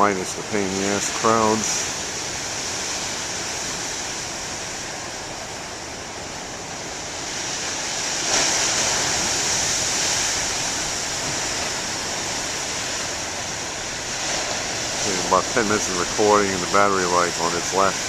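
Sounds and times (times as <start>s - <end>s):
ocean waves washing: 0.0s - 18.0s
wave crashing: 0.0s - 18.0s.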